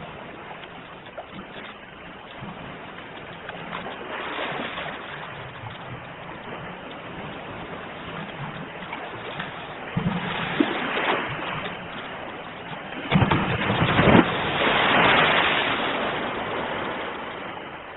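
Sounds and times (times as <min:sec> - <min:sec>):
sea waves breaking on shore: 0:00.0 - 0:17.9.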